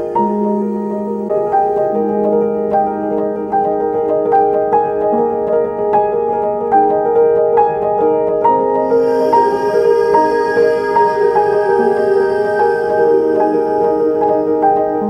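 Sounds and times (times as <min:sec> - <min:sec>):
gentle instrumental music: 0:00.0 - 0:15.0.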